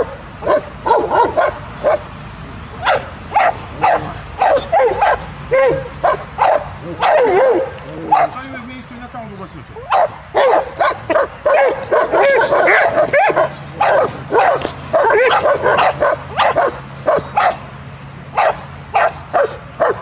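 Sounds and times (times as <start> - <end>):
dog barking rapidly: 0.0 - 2.1, 2.8 - 8.6, 9.8 - 17.7, 18.3 - 20.0.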